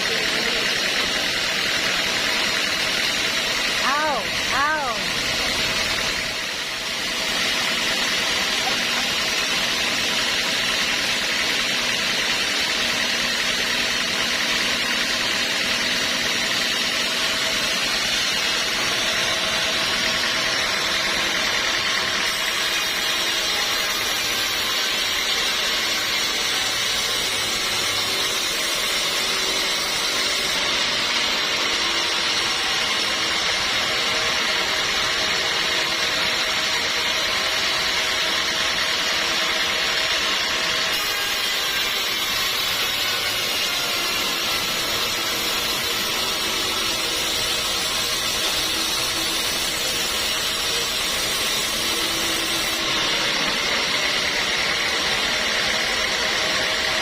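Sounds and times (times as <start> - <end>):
sawmill machinery hissing and humming: 0.0 - 57.0.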